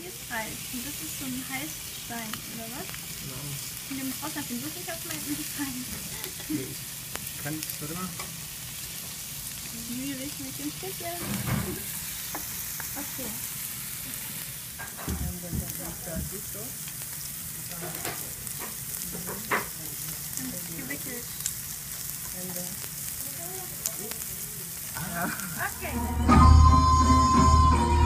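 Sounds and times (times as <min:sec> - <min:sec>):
meat sizzling on hot plate: 0:00.0 - 0:26.7.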